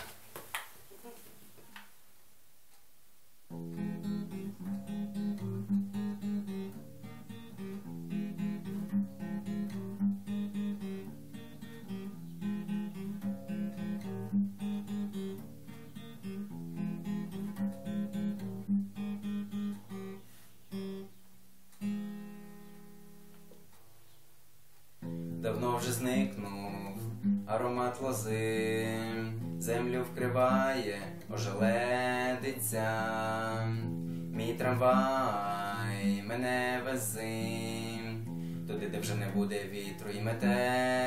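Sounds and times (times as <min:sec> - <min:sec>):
acoustic guitar strumming chords: 0:03.5 - 0:23.7, 0:25.0 - 0:41.0.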